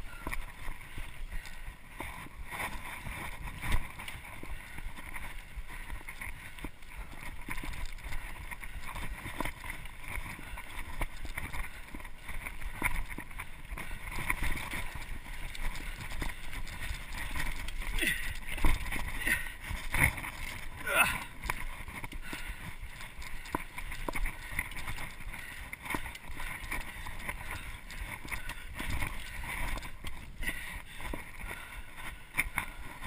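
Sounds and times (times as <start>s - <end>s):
bike rattling and clicking: 0.0s - 33.0s
bike tyre noise: 0.0s - 33.0s.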